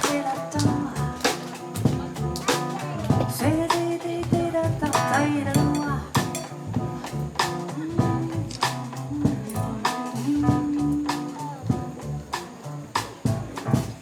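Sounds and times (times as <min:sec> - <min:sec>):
double bass: 0:00.0 - 0:14.0
drum kit and cymbals: 0:00.0 - 0:14.0
piano: 0:00.0 - 0:14.0.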